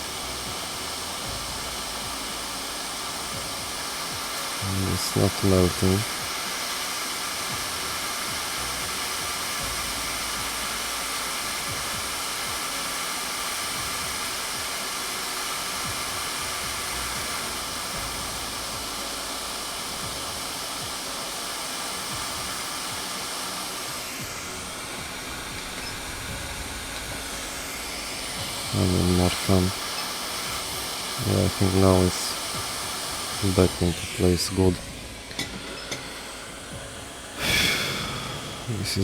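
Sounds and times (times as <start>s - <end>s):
hot-air rework station hissing: 0.0s - 39.0s.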